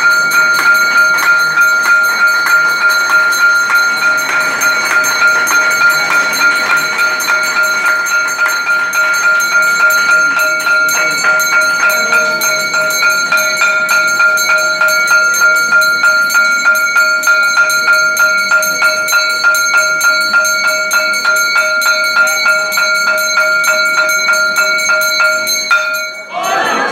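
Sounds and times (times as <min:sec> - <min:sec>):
bell ringing rapidly: 0:00.0 - 0:26.9.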